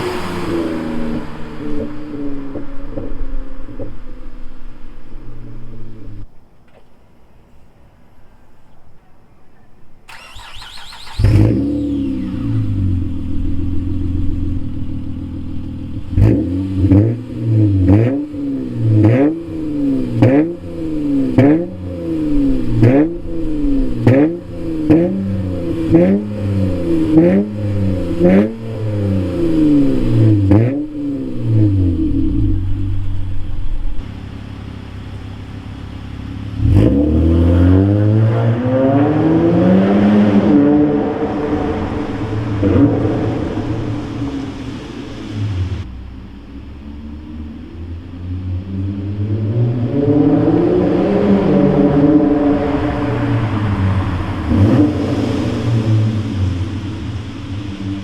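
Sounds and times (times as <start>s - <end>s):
car engine revving: 0.0s - 6.3s, 10.1s - 58.0s
car engine starting: 0.0s - 7.6s, 10.0s - 58.0s
car engine idling: 0.0s - 37.8s, 40.9s - 49.5s, 51.4s - 58.0s.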